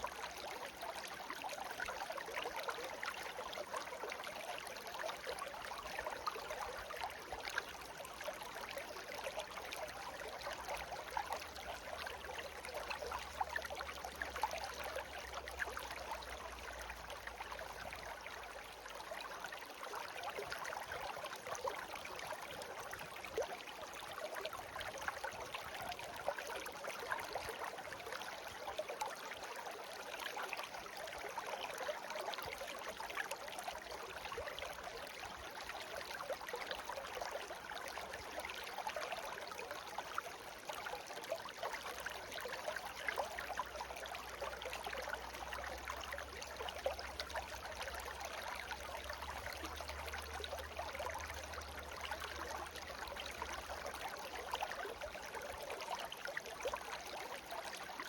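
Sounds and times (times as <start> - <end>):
babbling brook: 0.0 - 58.0.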